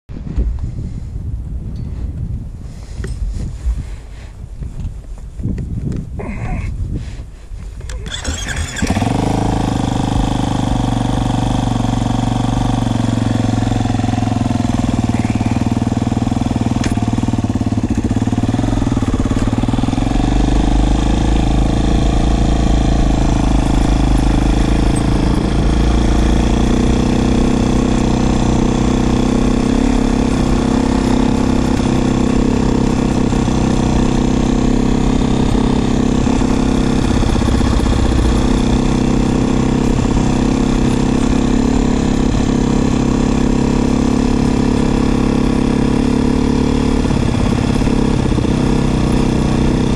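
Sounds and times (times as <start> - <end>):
dirt bike engine idling: 7.8 - 49.9.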